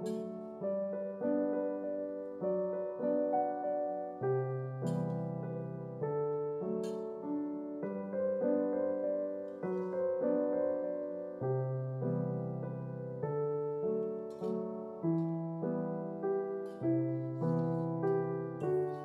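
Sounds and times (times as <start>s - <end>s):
slow solo piano: 0.0s - 19.0s.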